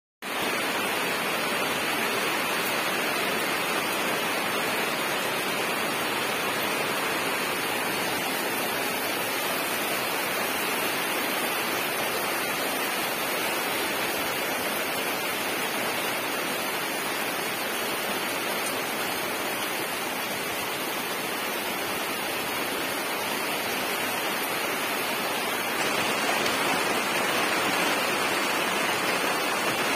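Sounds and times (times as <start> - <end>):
heavy rain pouring: 0.2 - 29.9.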